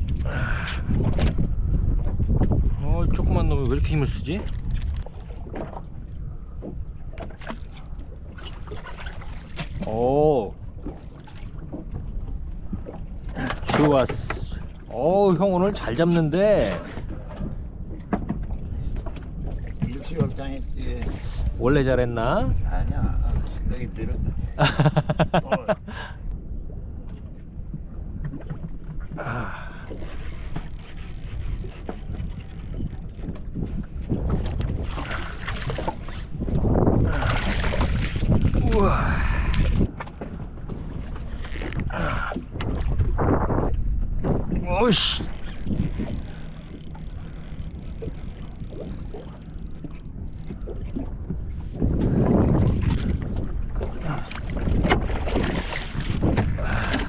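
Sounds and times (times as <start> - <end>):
water slapping boat hull: 0.0 - 57.0
wind rumbling on microphone: 0.0 - 57.0.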